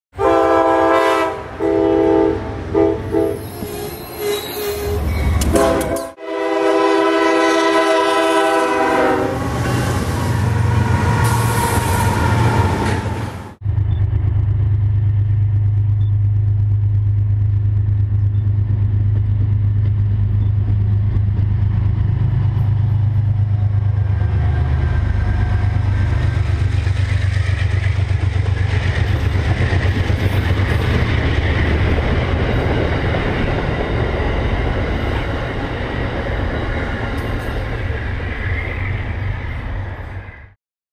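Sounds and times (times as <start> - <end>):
diesel locomotive engine drone: 0.1 - 40.6
train wheels on rails: 0.6 - 6.2, 7.7 - 40.4.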